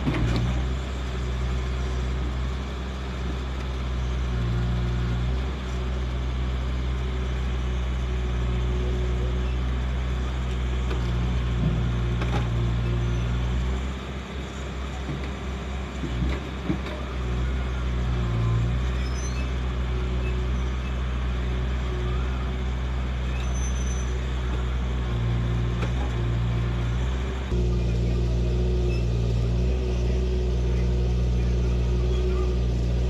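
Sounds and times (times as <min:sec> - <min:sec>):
diesel engine running under load: 0:00.0 - 0:33.0.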